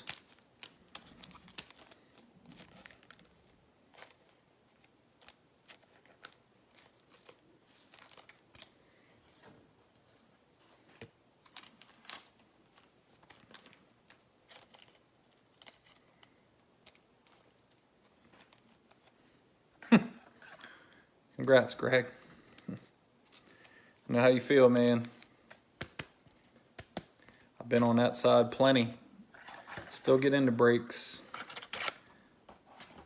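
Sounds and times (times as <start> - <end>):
handling trading cards and wrappers: 0.0 - 10.0, 10.8 - 19.4, 21.6 - 33.0.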